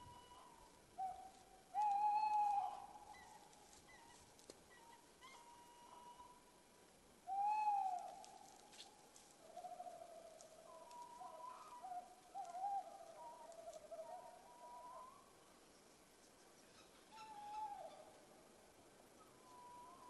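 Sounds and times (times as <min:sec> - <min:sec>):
tawny owls calling: 0:00.0 - 0:06.5, 0:07.2 - 0:15.5, 0:16.6 - 0:18.2, 0:19.2 - 0:20.0.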